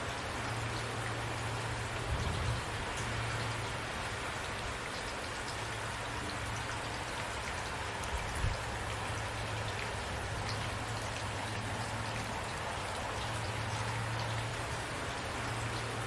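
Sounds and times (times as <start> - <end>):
raindrops ticking on surface: 0.0 - 16.0
steady rainfall: 0.0 - 16.0.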